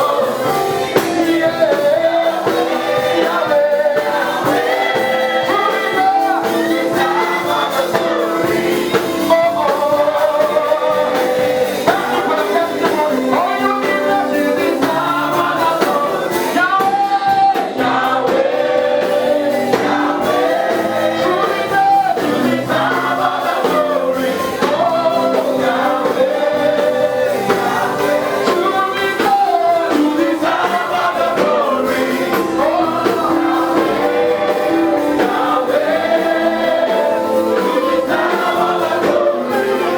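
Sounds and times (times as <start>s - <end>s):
group singing in harmony: 0.0s - 39.9s
live band playing: 0.0s - 39.9s.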